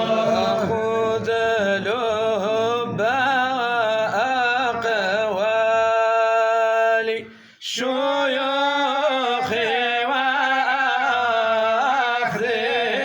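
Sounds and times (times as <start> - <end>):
man singing a religious chant: 0.0 - 13.0.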